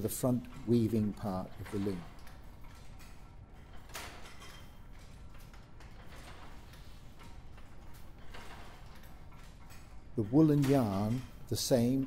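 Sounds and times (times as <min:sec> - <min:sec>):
loom ticking clack: 0:00.0 - 0:12.0.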